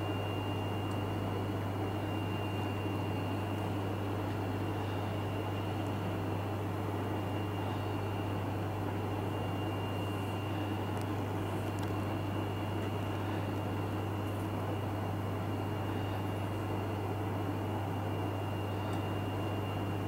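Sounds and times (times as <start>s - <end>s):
faint high whine: 0.0s - 20.0s
low electrical hum: 0.0s - 20.0s.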